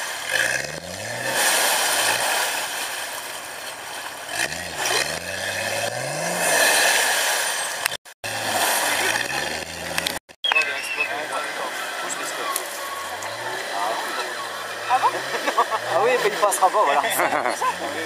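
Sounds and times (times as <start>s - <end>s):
off-road vehicle engine revving: 0.0s - 3.0s, 4.1s - 18.0s.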